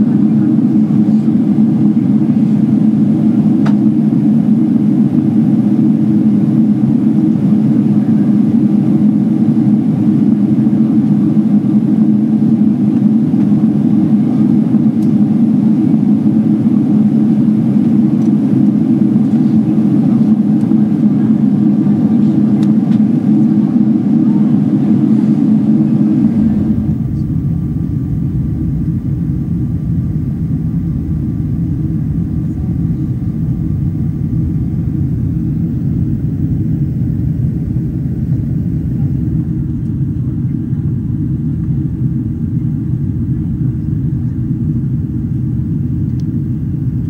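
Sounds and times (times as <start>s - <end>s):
airliner engine roar in cabin: 0.0s - 47.0s
deep rumble: 0.0s - 47.0s.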